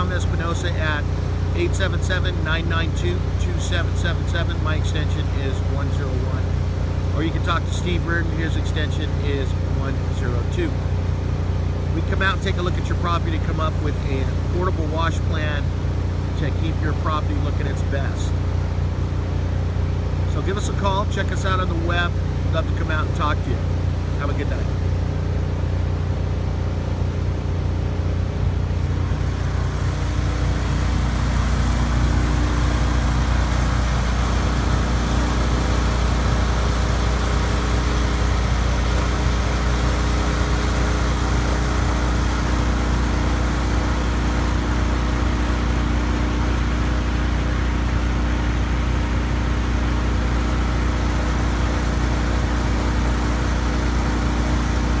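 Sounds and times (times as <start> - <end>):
pressure washer engine running: 0.0 - 55.0.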